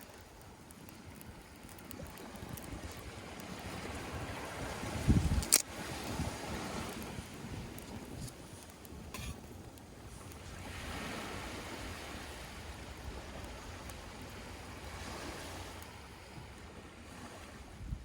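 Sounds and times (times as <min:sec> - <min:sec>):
surf washing ashore: 0:00.0 - 0:18.0
wind rumbling on microphone: 0:00.0 - 0:18.0.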